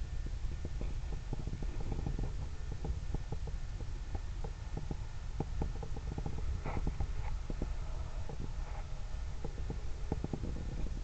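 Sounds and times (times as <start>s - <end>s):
faint irregular clicks: 0.0s - 11.0s
wind rumbling on microphone: 0.0s - 11.0s.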